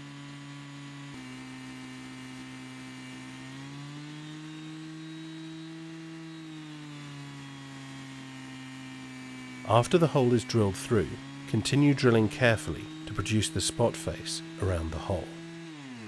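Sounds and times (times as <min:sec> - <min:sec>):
drill cutting through metal: 0:00.0 - 0:16.0
small petrol engine running: 0:00.0 - 0:16.0.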